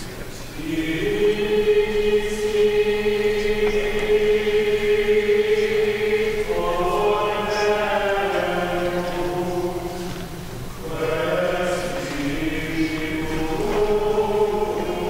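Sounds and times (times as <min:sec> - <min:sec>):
choir chanting in unison: 0:00.5 - 0:15.0.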